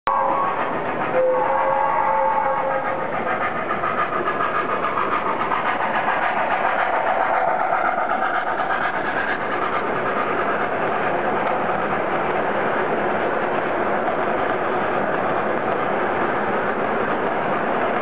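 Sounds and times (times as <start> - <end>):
model train rolling past: 0.1 - 18.0.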